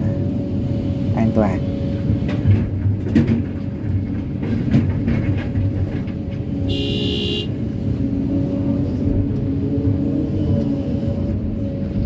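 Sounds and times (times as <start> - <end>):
excavator diesel engine: 0.0 - 12.0.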